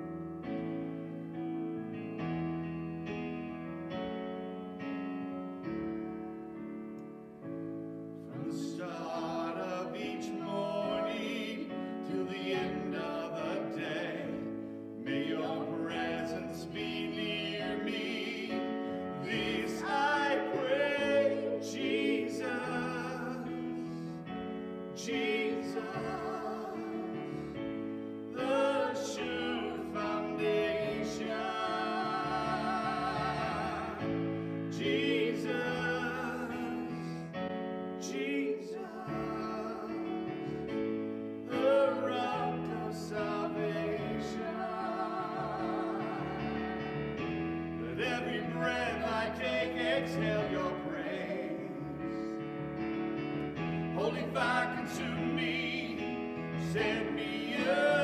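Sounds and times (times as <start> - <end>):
electric keyboard chords: 0.0 - 8.6, 9.9 - 58.0.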